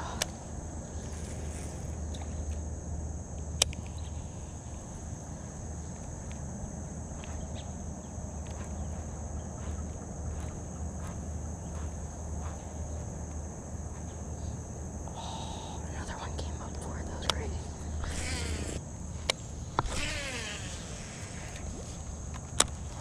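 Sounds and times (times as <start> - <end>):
high-pitched insect drone: 0.0 - 23.0
low steady rumble: 0.0 - 23.0.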